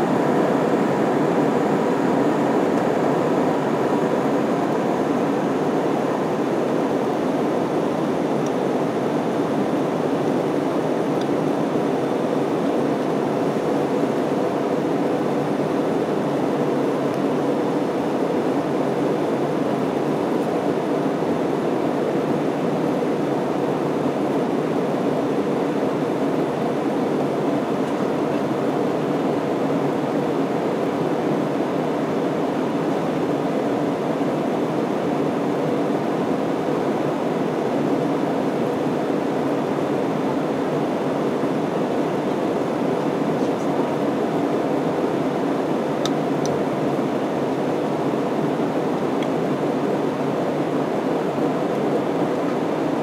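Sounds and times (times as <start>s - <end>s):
airplane cabin jet engine rush: 0.0s - 53.0s.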